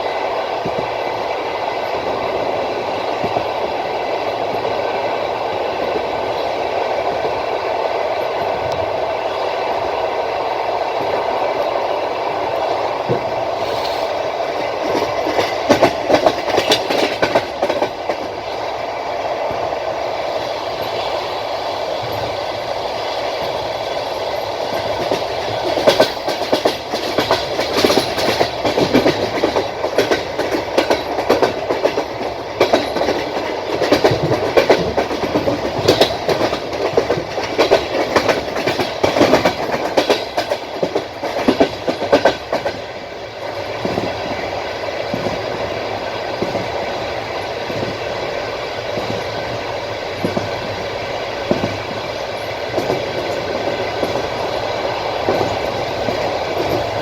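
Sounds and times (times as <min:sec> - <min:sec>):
train rumble: 0:00.0 - 0:57.0
train wheels clicking over rail joints: 0:00.6 - 0:18.8, 0:20.3 - 0:57.0.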